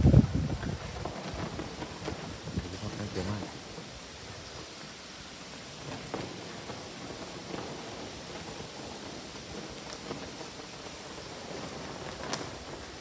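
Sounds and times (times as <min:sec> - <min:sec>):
storm wind through trees: 0:00.0 - 0:13.0.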